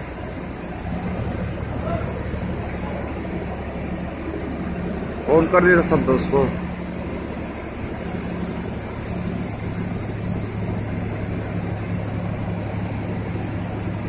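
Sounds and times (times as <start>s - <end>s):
crane diesel engines humming: 0.0s - 14.0s.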